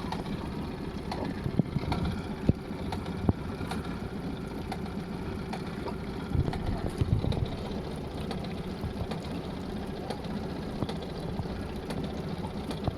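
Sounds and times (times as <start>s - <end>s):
engine knocking: 0.0s - 12.9s
outboard motor running: 0.0s - 12.9s.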